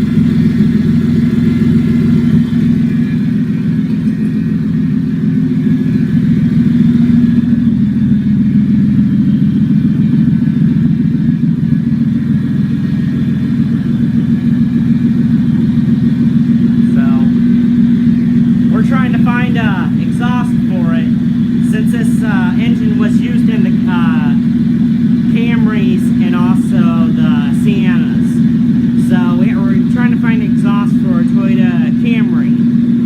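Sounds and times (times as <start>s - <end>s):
loud car engine exhaust: 0.0s - 33.0s.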